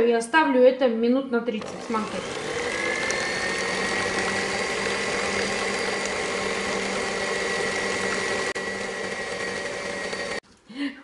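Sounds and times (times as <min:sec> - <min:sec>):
electric mixer whining: 0:01.6 - 0:10.4.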